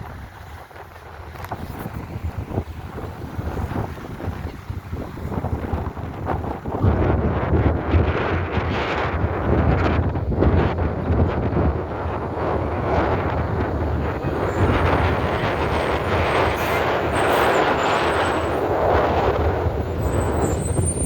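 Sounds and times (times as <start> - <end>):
heavy vehicle rumble: 0.0 - 21.0.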